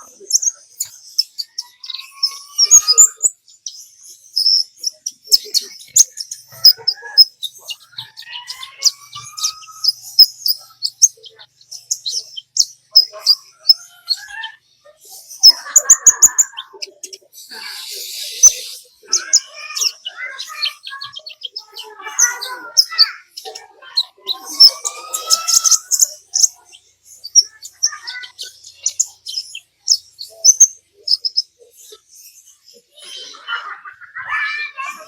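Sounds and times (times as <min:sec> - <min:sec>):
sunbird chirping and trilling: 0:00.0 - 0:35.0.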